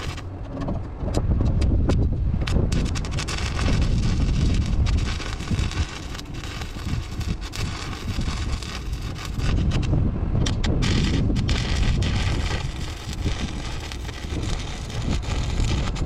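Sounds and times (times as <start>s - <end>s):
welding arc crackling: 0.0s - 0.3s, 2.4s - 16.0s.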